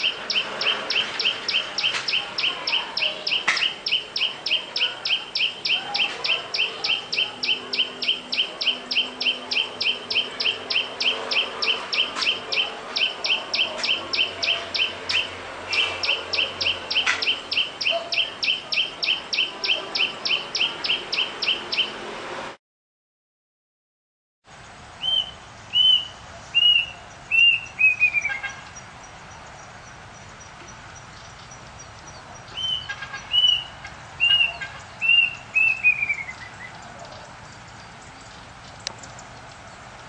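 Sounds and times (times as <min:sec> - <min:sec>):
bird chirping rapidly: 0:00.0 - 0:22.1, 0:25.0 - 0:39.8.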